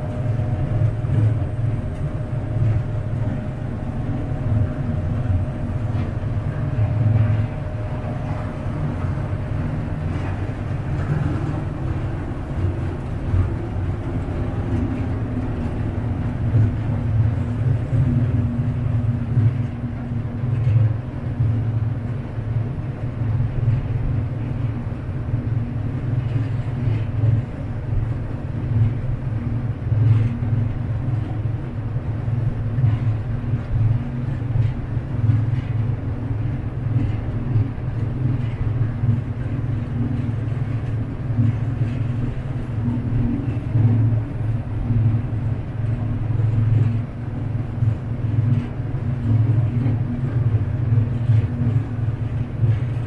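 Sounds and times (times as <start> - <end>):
boat engine rumble: 0.0 - 53.0
water wash past hull: 0.0 - 53.0.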